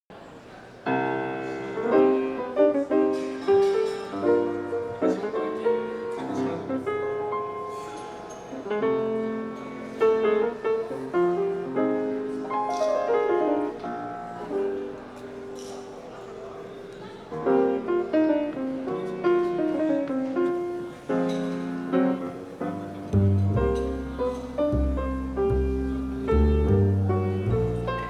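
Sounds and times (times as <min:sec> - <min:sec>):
jazz piano playing: 0:00.9 - 0:16.4, 0:17.4 - 0:28.0.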